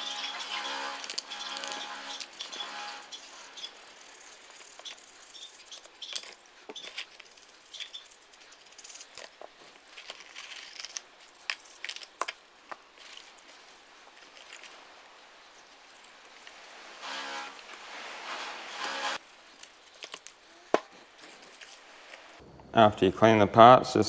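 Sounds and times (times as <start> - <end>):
small metal parts clicking and scraping: 0.0 - 22.4.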